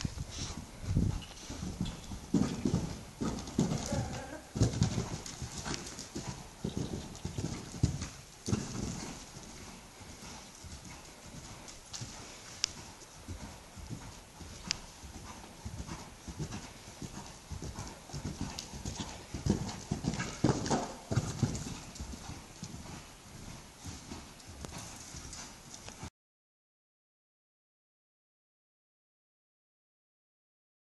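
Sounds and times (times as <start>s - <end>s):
hoofbeats on sand: 0.1s - 26.1s.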